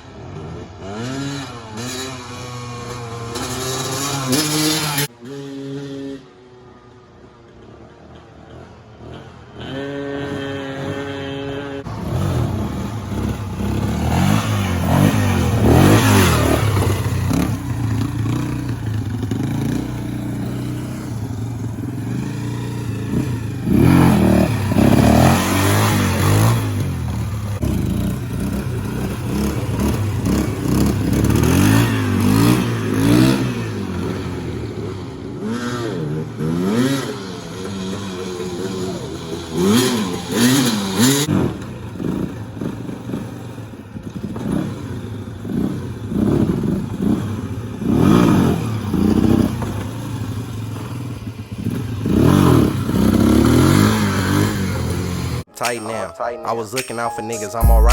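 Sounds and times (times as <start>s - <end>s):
off-road vehicle engine revving: 0.0s - 6.1s, 9.0s - 43.3s, 44.2s - 55.5s.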